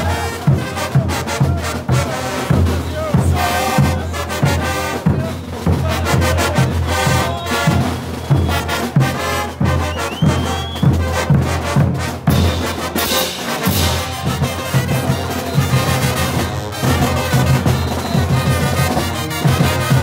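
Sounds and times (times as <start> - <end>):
bass drums: 0.0 - 20.0
snare drums: 0.0 - 20.0
trumpets and trombones: 0.0 - 20.0.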